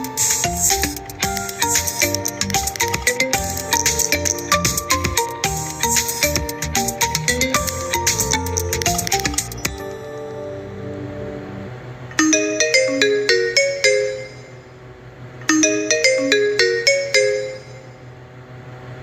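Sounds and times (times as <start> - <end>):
bell-like phone ringtone: 0.0 - 14.9, 15.5 - 18.2
faint steady hum: 0.0 - 19.0.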